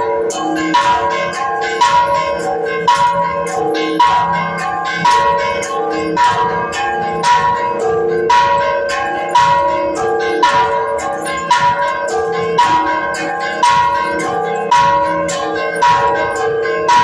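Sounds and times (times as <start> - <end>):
church bells ringing: 0.0 - 17.0.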